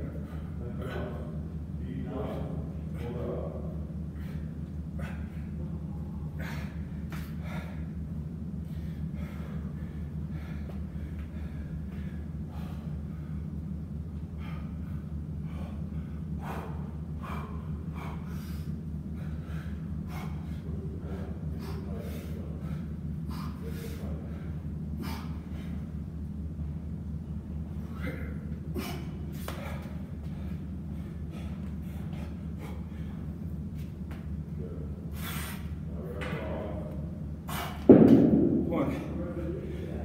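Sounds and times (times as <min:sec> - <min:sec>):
steady low hum: 0:00.0 - 0:40.0
man breathing hard: 0:00.1 - 0:01.4, 0:04.0 - 0:26.2, 0:27.3 - 0:34.2, 0:34.9 - 0:35.9, 0:37.4 - 0:37.9, 0:38.8 - 0:40.0.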